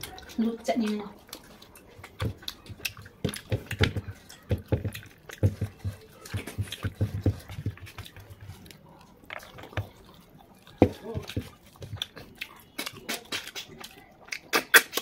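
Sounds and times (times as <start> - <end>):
person chewing with mouth open: 0.0 - 15.0.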